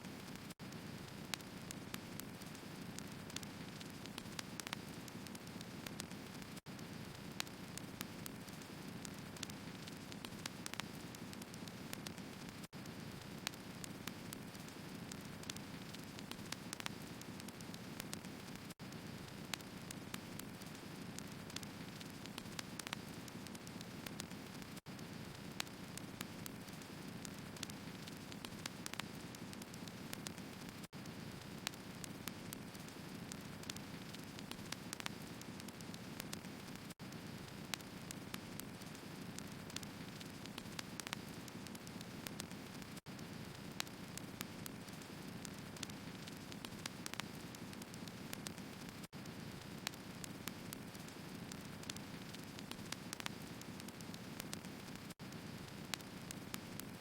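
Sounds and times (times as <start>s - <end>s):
wood crackling and popping: 0.0s - 57.0s.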